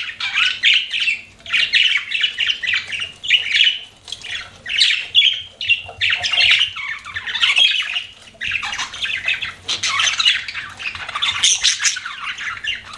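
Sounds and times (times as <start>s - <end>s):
budgerigars chattering: 0.0s - 12.9s.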